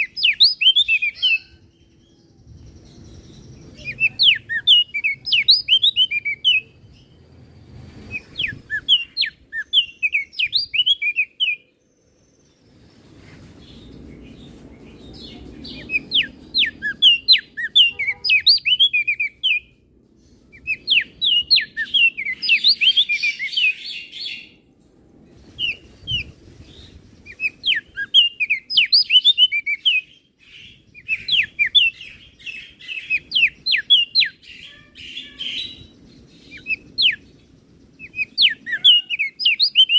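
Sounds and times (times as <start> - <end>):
bird singing sharp chirps: 0.0 - 19.7, 20.3 - 24.5, 25.4 - 39.9.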